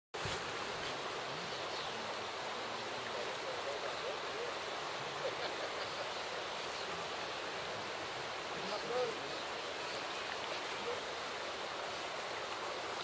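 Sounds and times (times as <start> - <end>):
flowing river water: 0.1 - 13.0.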